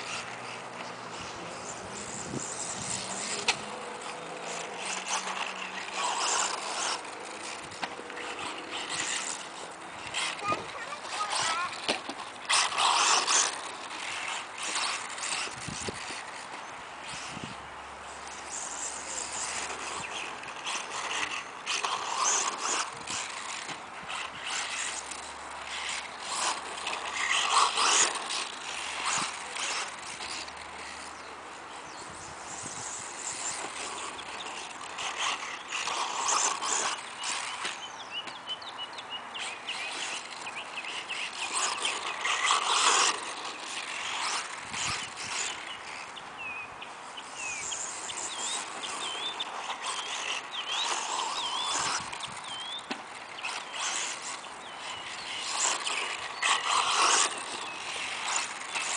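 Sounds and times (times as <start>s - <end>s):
rc car motor whine: 0.0s - 58.9s
tyres scrabbling on dirt: 0.0s - 58.9s.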